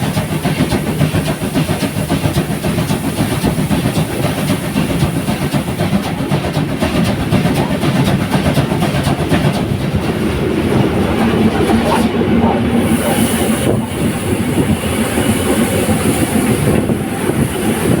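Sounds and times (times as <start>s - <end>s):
wheels clicking over rail joints: 0.0s - 14.8s
steam hiss: 0.0s - 18.0s
steam train rolling: 0.0s - 18.0s.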